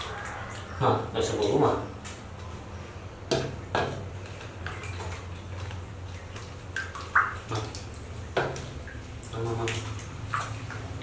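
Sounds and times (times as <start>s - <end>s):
water splashing in basin: 0.0s - 2.3s, 3.3s - 11.0s.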